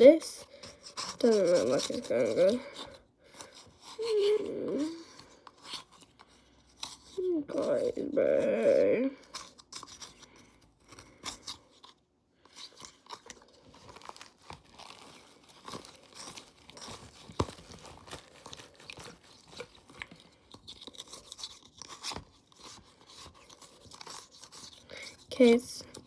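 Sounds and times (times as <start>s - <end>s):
hands scraping and crinkling plastic: 0.0s - 26.0s.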